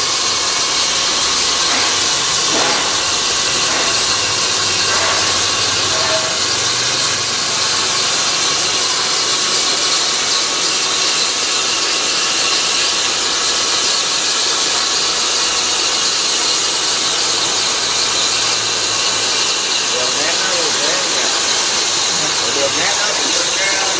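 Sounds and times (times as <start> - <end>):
plasma cutter hissing: 0.0 - 23.9.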